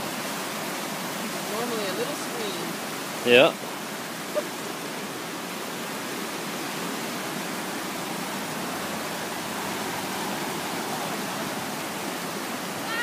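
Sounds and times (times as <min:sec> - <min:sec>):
brook water rushing: 0:00.0 - 0:13.0.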